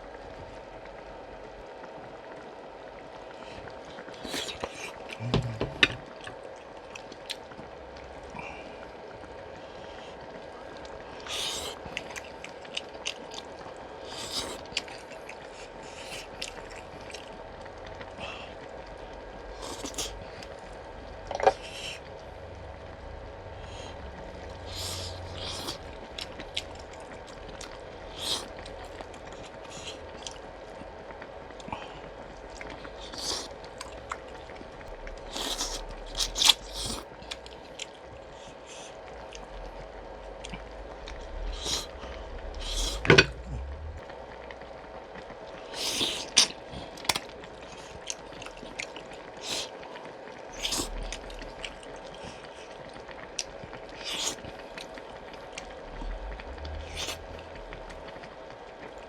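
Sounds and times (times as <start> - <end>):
faint steady hum: 0.0 - 59.0
wet chewing and slurping: 3.6 - 8.3, 11.0 - 18.7, 19.5 - 22.2, 23.5 - 44.1, 45.2 - 59.0.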